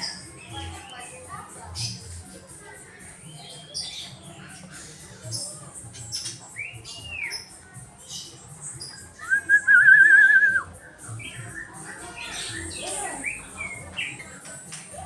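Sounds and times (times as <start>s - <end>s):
songbird chirping and warbling: 0.0s - 15.0s.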